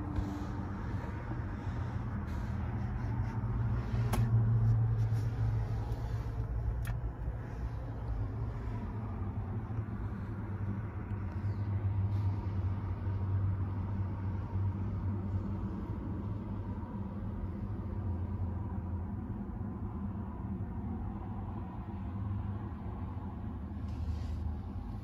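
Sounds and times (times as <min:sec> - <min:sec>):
low hum in car cabin: 0:00.0 - 0:25.0.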